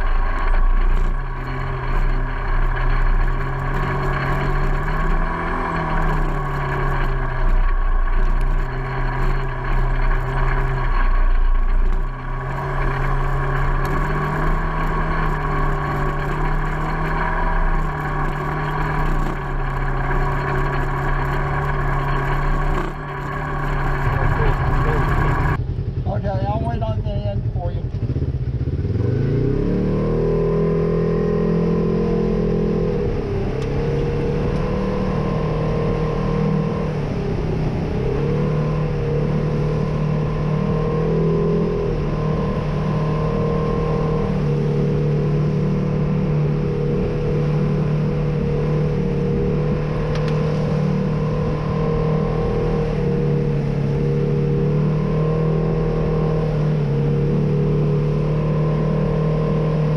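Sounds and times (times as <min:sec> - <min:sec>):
engine running under load: 0:00.0 - 0:59.9.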